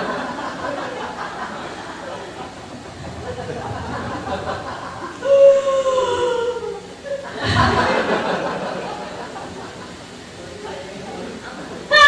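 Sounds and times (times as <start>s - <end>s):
audience laughing: 0.0s - 10.1s.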